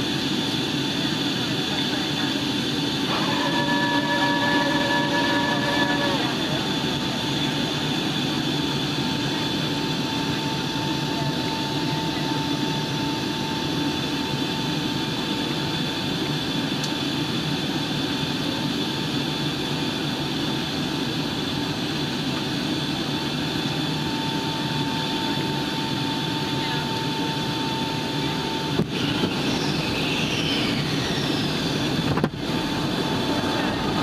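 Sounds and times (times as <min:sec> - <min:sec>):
airliner cabin jet engine rush: 0:00.0 - 0:34.0
steady whining tones: 0:00.0 - 0:34.0.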